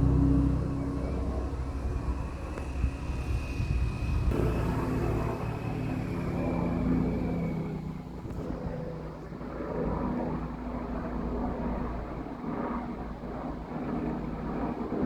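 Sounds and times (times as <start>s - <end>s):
helicopter rumble and whine: 0.0s - 15.0s.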